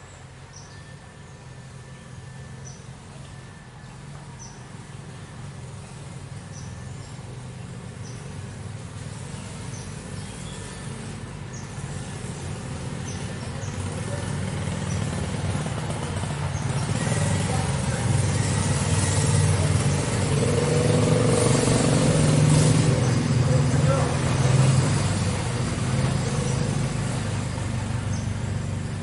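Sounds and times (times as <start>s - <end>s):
motor engine running: 4.1s - 29.0s.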